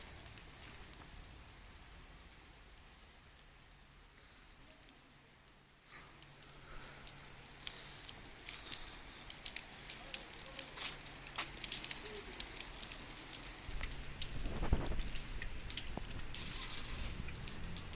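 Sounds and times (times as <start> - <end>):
raindrops ticking on a surface: 0.0 - 17.9
soft rain hiss: 0.0 - 17.9.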